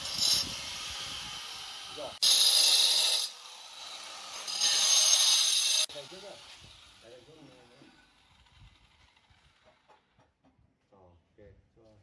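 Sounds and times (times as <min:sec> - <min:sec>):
angle grinder grinding stone: 0:00.0 - 0:09.9.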